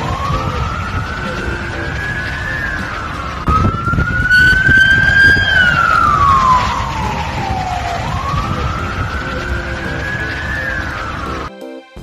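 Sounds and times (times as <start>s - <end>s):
siren wailing: 0.0s - 11.5s.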